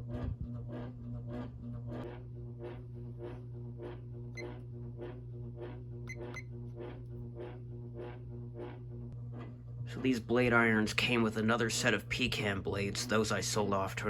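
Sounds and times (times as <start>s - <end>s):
ceiling fan motor humming: 0.0s - 14.0s
rhythmic fan blade vibration: 0.0s - 14.0s.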